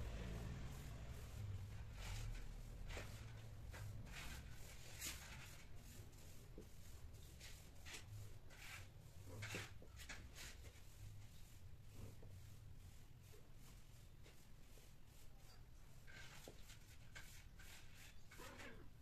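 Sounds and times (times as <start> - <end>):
cat rustling on tiled floor: 0.0 - 19.0
low room hum: 0.0 - 19.0.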